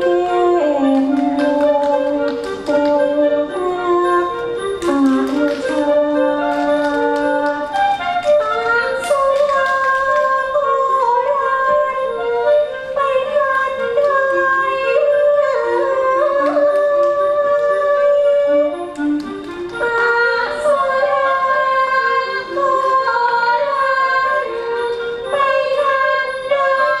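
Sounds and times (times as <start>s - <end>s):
classical melody with long bending notes: 0.0s - 27.0s.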